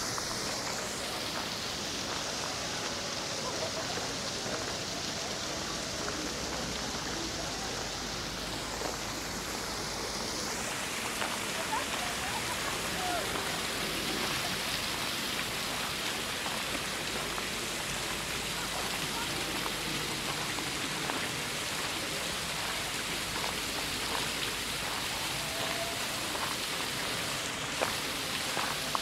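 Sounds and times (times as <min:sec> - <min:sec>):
fountain water splashing: 0:00.0 - 0:29.0.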